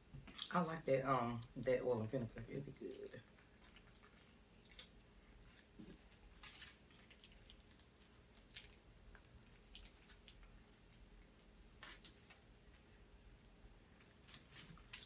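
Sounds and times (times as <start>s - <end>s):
soft chewing: 2.4s - 15.0s.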